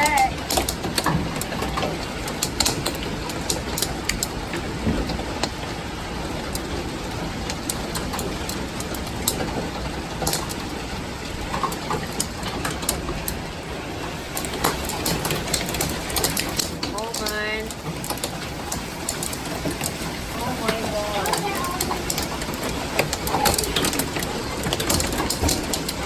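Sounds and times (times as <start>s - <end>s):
hail and heavy rain: 0.0s - 26.0s
hailstones clicking on hard surfaces: 0.0s - 26.0s.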